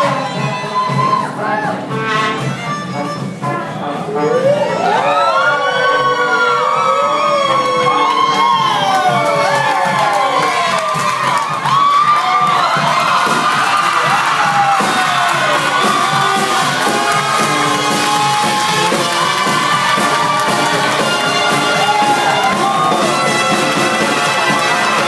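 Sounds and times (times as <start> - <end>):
crowd noise: 0.0 - 25.0
loud music with sliding melody: 0.0 - 25.0.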